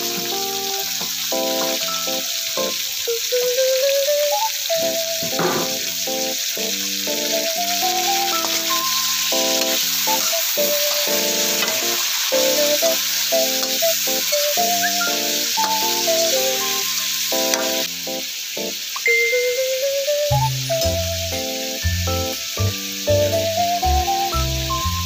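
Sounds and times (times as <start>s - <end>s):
background music: 0.0s - 25.0s
food sizzling in a pan: 0.0s - 25.0s.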